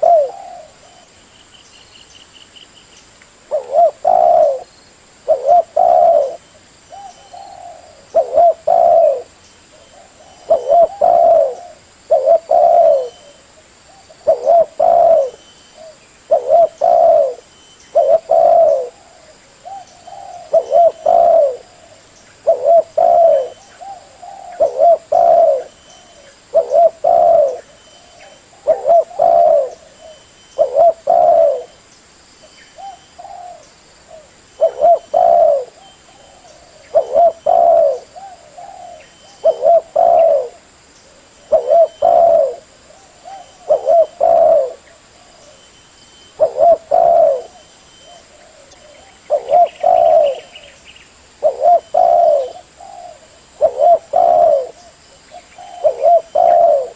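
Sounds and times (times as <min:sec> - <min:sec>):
dove cooing: 0:00.0 - 0:01.2, 0:03.5 - 0:31.8, 0:32.8 - 0:56.9.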